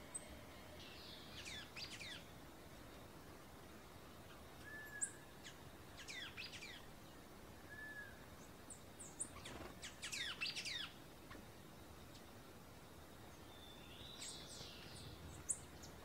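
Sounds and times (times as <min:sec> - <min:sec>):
songbirds calling: 0:00.0 - 0:02.4, 0:04.0 - 0:12.4, 0:13.0 - 0:16.0.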